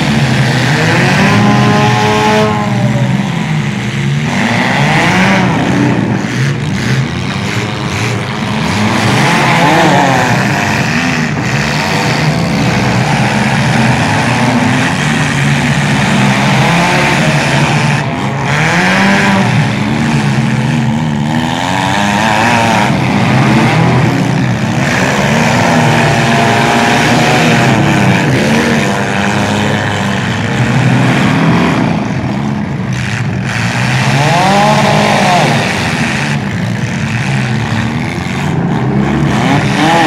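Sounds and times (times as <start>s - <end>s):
car engines revving hard: 0.0s - 40.0s
cars ramming: 0.0s - 40.0s.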